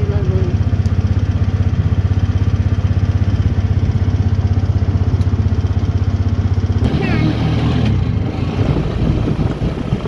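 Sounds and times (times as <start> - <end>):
vehicle engine throbbing: 0.0 - 10.0.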